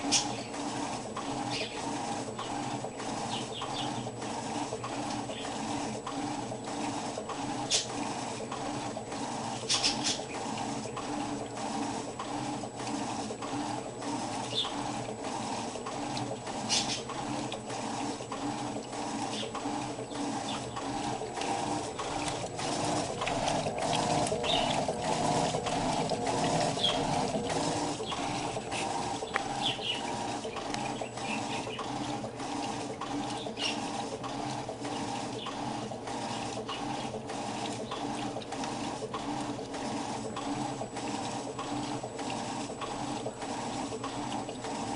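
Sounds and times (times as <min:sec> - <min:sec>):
washing machine humming: 0:00.0 - 0:44.9
water sloshing in drum: 0:00.0 - 0:44.9.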